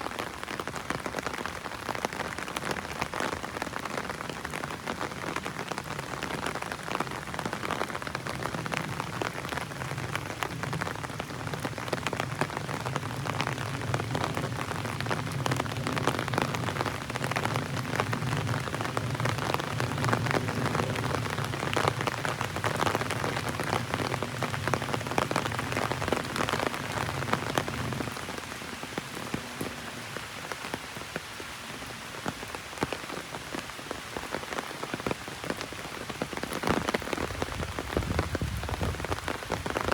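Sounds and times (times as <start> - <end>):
heavy rain drumming on umbrella: 0.0 - 39.9.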